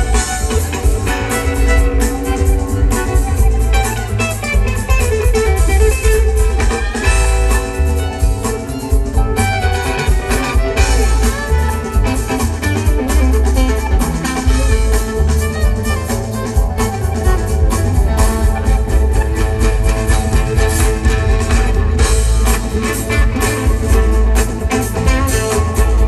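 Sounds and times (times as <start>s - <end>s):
drums: 0.0s - 26.0s
electric guitar lead: 0.0s - 26.0s
upright bass: 0.0s - 26.0s.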